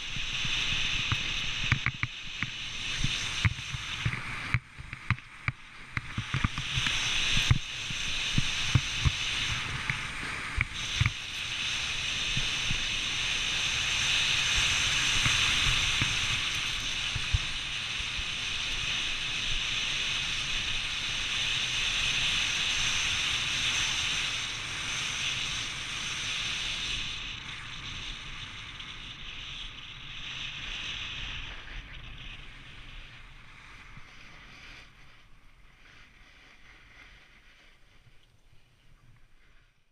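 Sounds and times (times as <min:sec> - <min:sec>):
snowboard scraping snow: 0:00.0 - 0:38.2
wind on microphone: 0:00.0 - 0:39.8.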